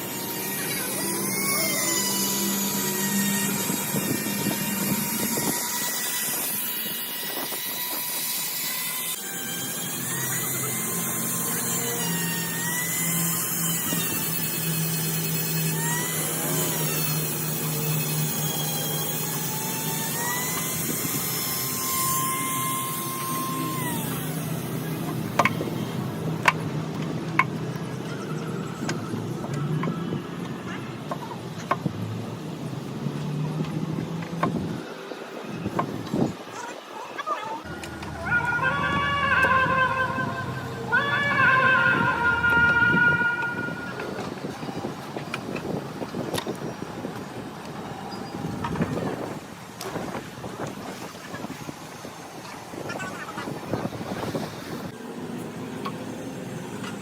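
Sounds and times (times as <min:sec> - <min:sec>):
power tool whine: 0:00.0 - 0:36.4, 0:37.6 - 0:57.0.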